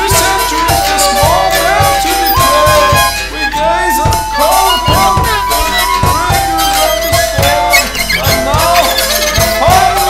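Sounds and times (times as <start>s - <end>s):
cymbals: 0.0s - 10.0s
kick drum beats: 0.0s - 10.0s
metal music: 0.0s - 10.0s
sliding lead melody: 0.0s - 10.0s.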